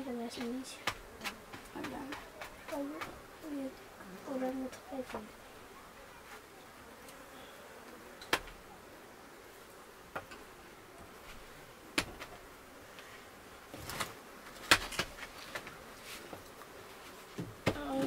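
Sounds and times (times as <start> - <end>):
faint steady background: 0.0 - 18.0.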